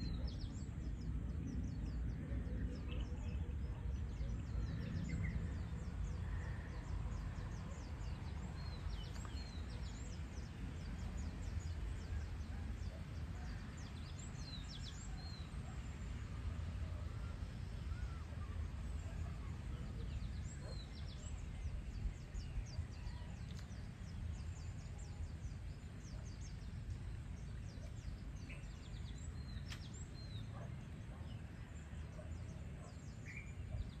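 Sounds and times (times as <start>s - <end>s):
birds chirping: 0.0s - 34.0s
steady low rumble: 0.0s - 34.0s.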